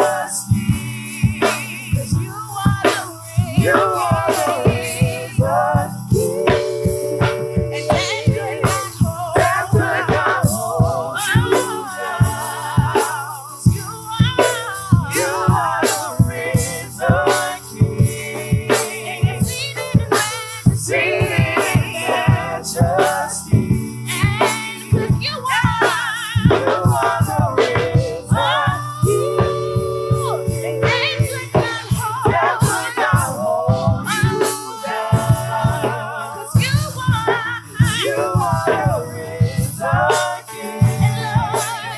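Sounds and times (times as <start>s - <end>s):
gospel worship band playing: 0.0s - 41.9s.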